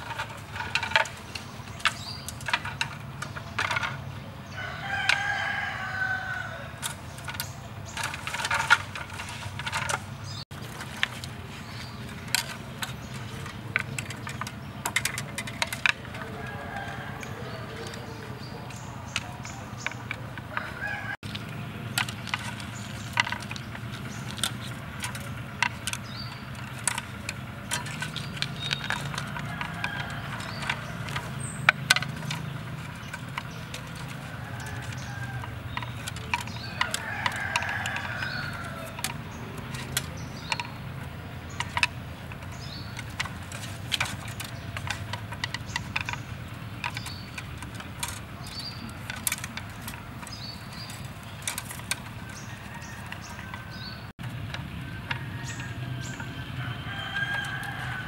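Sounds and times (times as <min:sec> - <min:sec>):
wire and bamboo clicking: 0:00.0 - 0:58.0.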